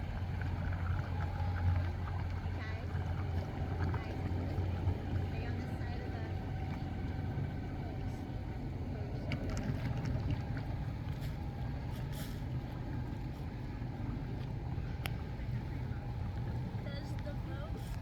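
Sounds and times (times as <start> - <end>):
low outdoor rumble: 0.0 - 18.0
faint voices: 1.8 - 18.0.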